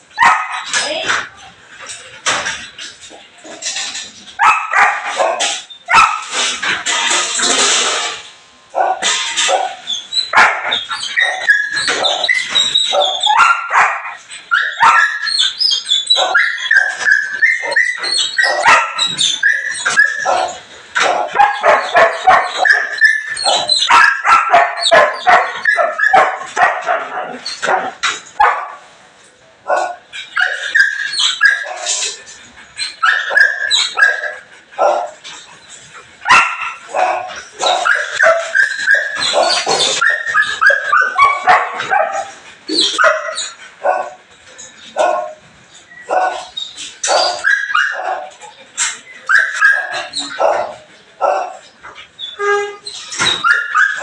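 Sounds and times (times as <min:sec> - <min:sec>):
dog barking and yipping: 0:00.1 - 0:01.0, 0:04.4 - 0:06.8, 0:08.8 - 0:28.8, 0:29.7 - 0:32.2, 0:32.8 - 0:35.4, 0:36.2 - 0:44.2, 0:44.9 - 0:45.4, 0:46.0 - 0:48.6, 0:49.2 - 0:54.0.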